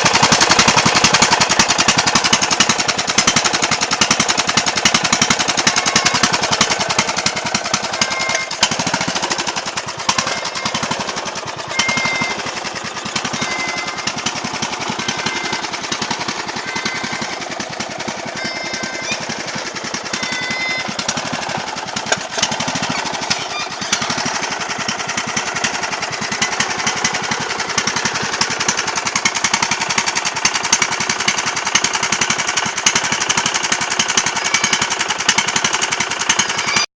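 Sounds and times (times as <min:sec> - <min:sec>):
lawn mower engine running: 0:00.0 - 0:36.9.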